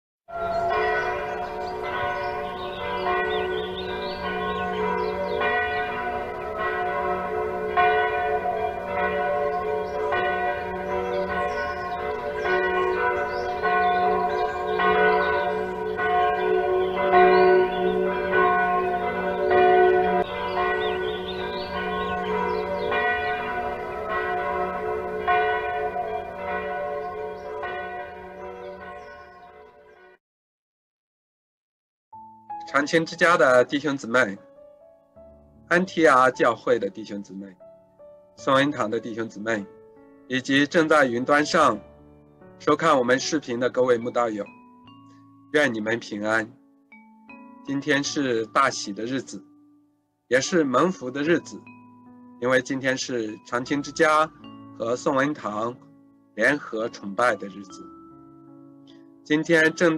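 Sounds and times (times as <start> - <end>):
church bells ringing: 0.3 - 30.2, 32.7 - 34.4, 35.7 - 37.6, 38.4 - 59.9.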